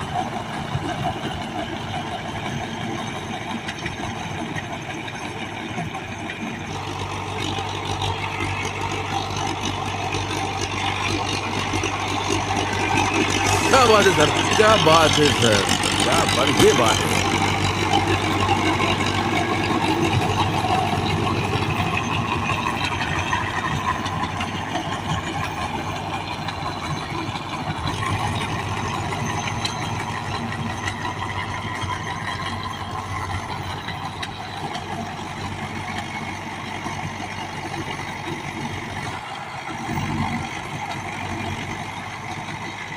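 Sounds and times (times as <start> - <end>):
diesel tractor engine running: 0.0 - 42.9.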